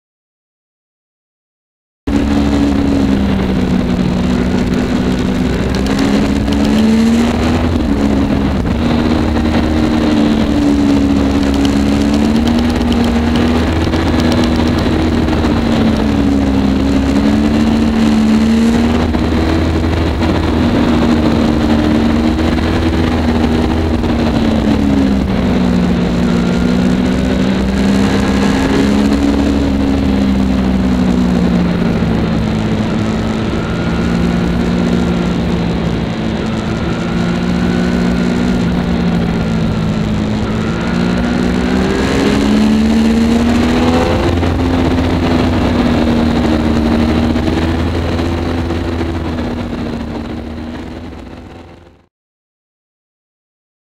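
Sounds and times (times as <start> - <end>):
wind noise: 2.1 - 52.0
motorcycle engine running: 2.1 - 52.1.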